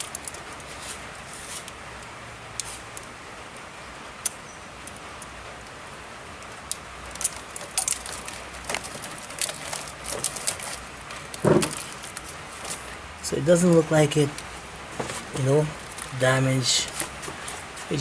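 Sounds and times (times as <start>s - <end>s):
tape rustling off wires: 0.0s - 18.0s.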